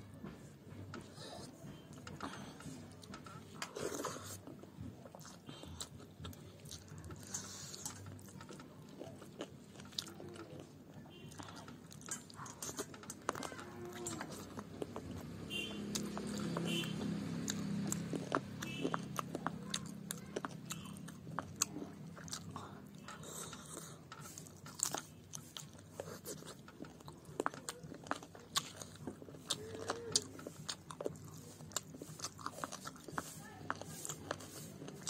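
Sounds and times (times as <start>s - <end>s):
chewing and lip-smacking: 1.0s - 35.0s.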